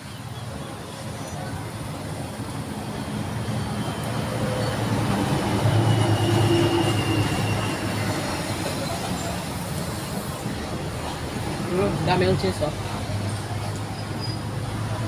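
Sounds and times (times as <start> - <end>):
vehicle engine rumble passing: 0.2 - 15.0.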